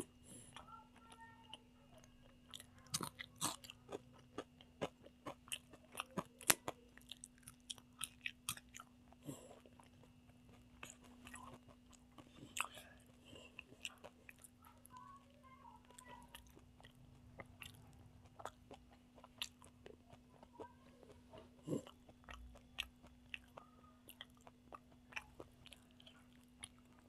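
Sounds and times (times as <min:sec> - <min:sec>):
person chewing with mouth smacks: 0:02.2 - 0:14.6, 0:15.8 - 0:27.0.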